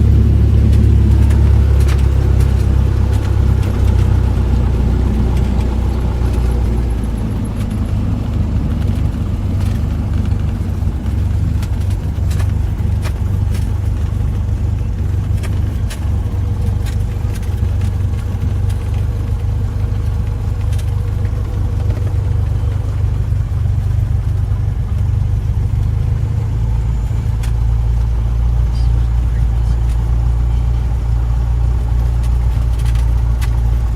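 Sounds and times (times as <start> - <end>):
propeller plane engine drone: 0.0 - 33.9.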